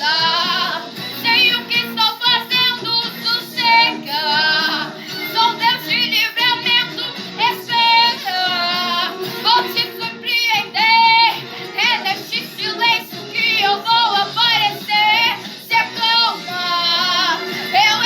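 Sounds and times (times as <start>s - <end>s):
child-like voice singing: 0.0s - 18.0s
instrumental accompaniment: 0.0s - 18.0s.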